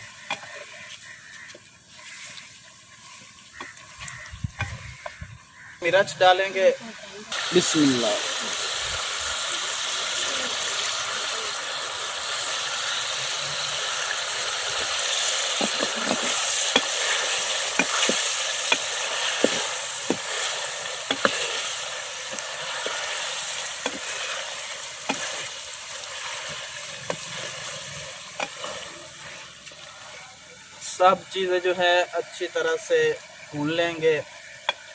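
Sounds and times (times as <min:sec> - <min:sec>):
food sizzling in a pot: 0:00.0 - 0:34.9.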